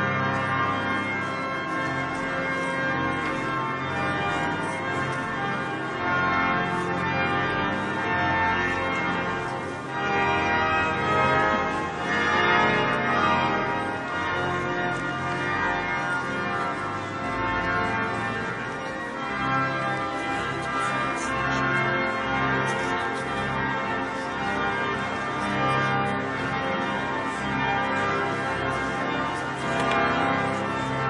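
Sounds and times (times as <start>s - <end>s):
church bells ringing: 0.0s - 31.0s
pipe organ playing: 0.0s - 31.0s.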